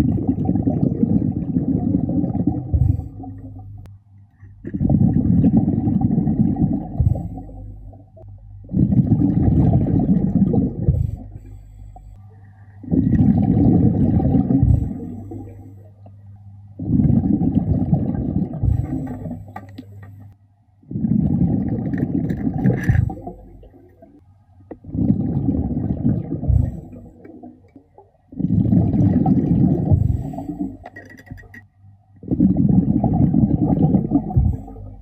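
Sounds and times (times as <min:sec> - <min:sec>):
scuba regulator bubbling underwater: 0:00.0 - 0:03.9, 0:04.6 - 0:12.0, 0:12.8 - 0:16.1, 0:16.8 - 0:20.0, 0:20.9 - 0:31.6, 0:32.2 - 0:35.0.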